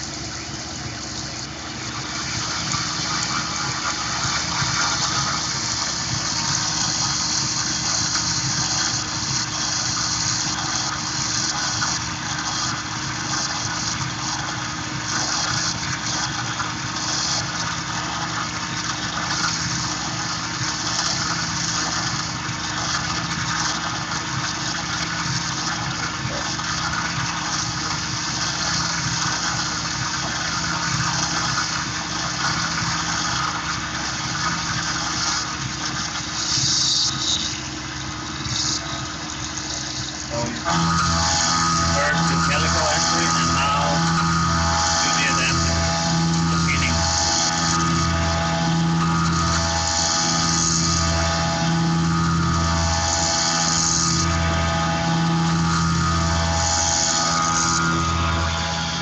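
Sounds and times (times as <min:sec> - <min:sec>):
milling machine hum: 0:00.0 - 0:59.0.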